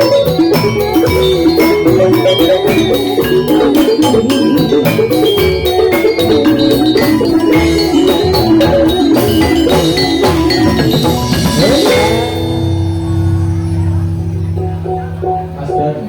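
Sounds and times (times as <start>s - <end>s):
gamelan drum strokes: 0.0s - 16.0s
metal-keyed percussion: 0.0s - 16.0s
wavering melody line: 0.0s - 16.0s.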